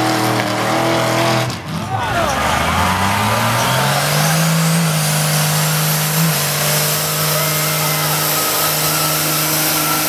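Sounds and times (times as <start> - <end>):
diesel engine at high revs: 0.0 - 10.0.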